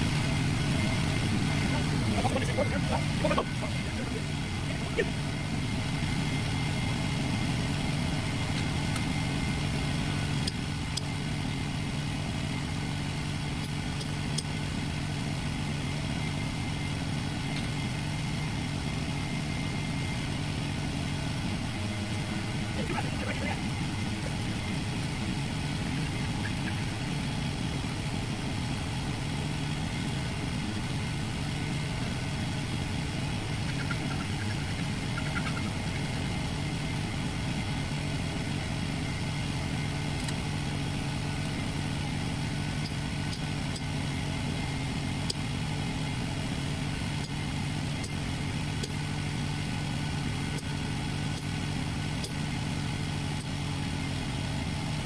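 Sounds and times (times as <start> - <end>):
machine droning: 0.0 - 55.0.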